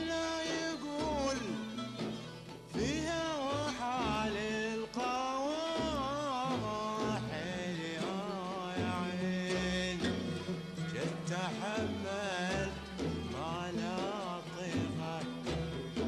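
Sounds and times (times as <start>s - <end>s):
oud violin qanun and double bass: 0.0s - 16.0s.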